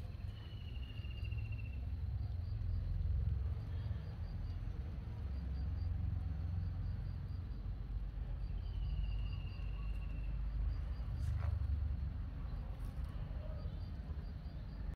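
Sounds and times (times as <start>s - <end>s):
insects chirping: 0.0s - 14.9s
steady low rumble: 0.0s - 14.9s.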